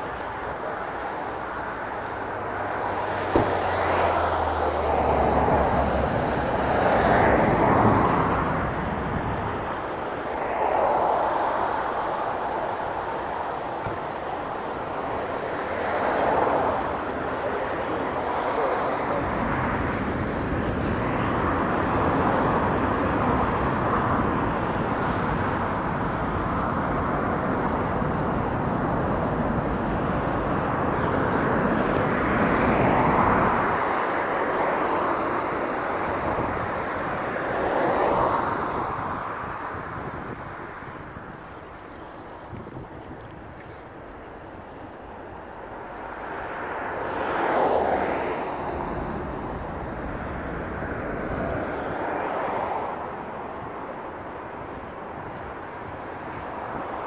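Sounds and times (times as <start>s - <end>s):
cars passing: 0.0s - 57.0s
hiss of tyres and engines: 0.0s - 57.0s.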